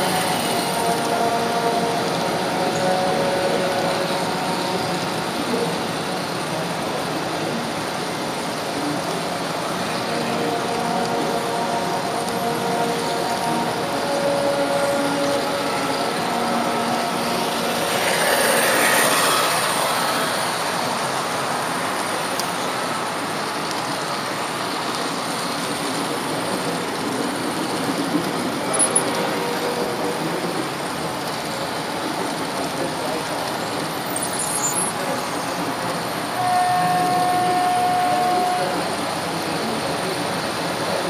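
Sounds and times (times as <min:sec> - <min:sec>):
model train rattling on track: 0:00.0 - 0:41.0.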